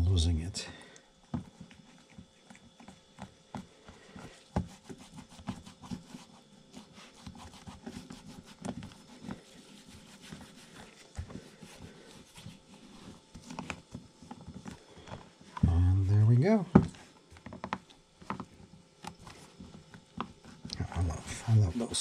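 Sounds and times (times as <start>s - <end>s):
leather rubbing and knocking: 2.2s - 22.0s.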